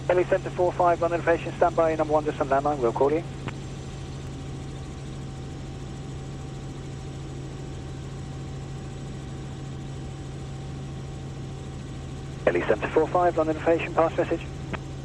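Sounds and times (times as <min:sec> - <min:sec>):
helicopter cabin drone: 0:00.0 - 0:15.0.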